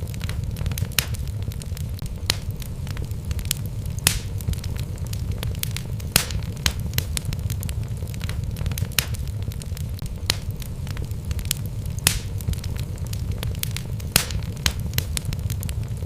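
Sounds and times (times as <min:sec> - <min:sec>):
flames rumbling: 0:00.0 - 0:16.0
logs crackling and popping: 0:00.0 - 0:16.0.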